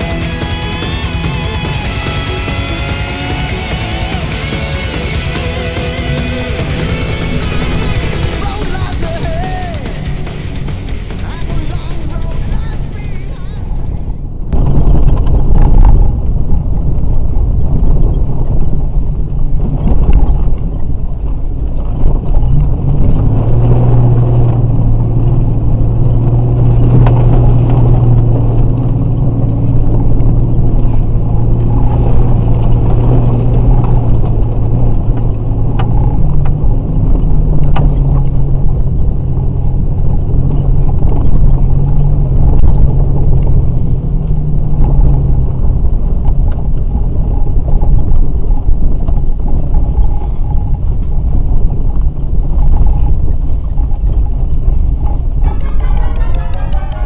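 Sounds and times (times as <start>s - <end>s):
vehicle engine and tyre rumble: 0.0s - 57.0s.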